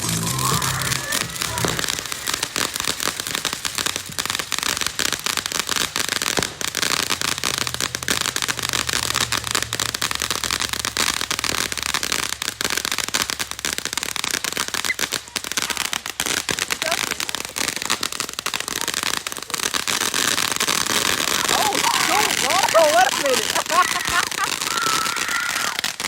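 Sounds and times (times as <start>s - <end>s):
firecrackers popping: 0.0s - 26.0s.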